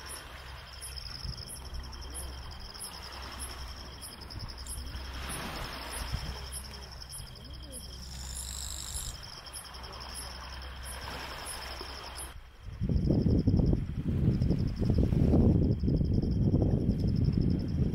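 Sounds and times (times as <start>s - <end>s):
crickets chirping: 0.0s - 17.9s.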